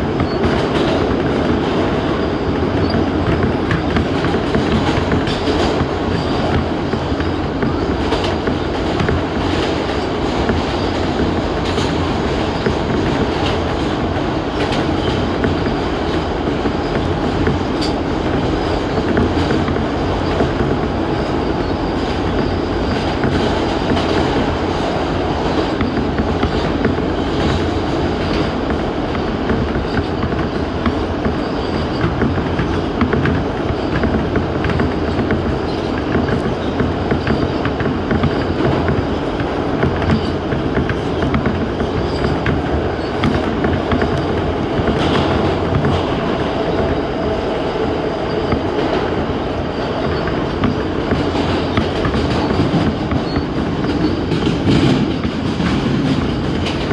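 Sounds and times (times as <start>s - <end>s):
wheels clicking over rail joints: 0.0s - 47.6s, 48.4s - 56.9s
subway train rumbling: 0.0s - 56.9s.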